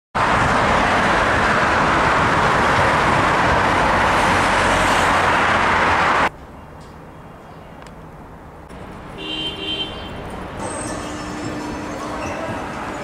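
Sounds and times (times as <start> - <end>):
road traffic roar: 0.2 - 13.0.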